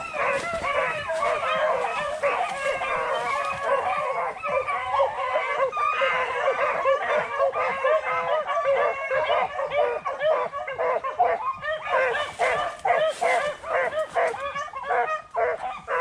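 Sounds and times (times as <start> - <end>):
pack of beagles baying: 0.0 - 16.0.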